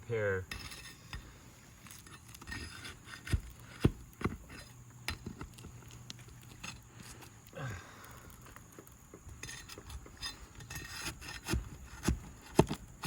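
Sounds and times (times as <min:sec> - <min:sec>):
metal tool scraping roof shingles: 0:00.2 - 0:07.3, 0:09.3 - 0:13.0.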